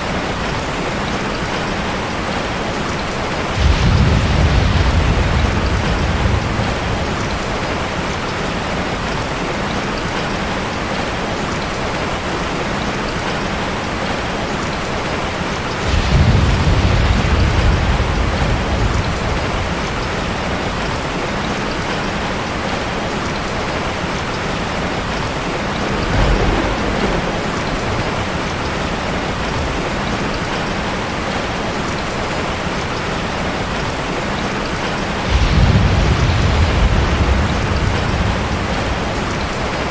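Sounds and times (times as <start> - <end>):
thunder rumbling: 0.0 - 10.2, 11.9 - 39.9
heavy rain falling: 0.0 - 39.9.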